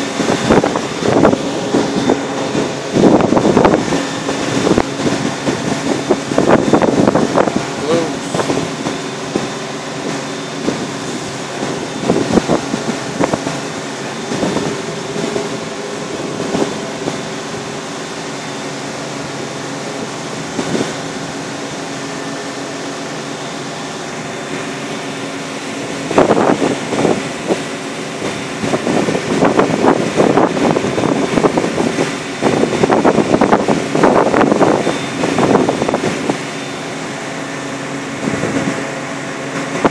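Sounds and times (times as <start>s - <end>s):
boat engine running: 0.0s - 39.9s
wind buffeting microphone: 0.0s - 39.9s.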